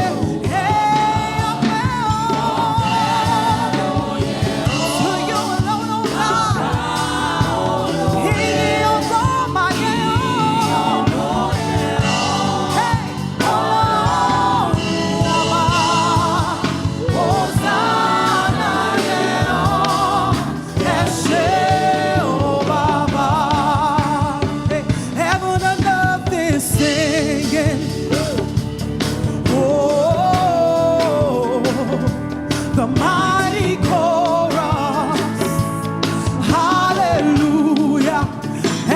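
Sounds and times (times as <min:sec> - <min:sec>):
gospel singing over a band: 0:00.0 - 0:38.9.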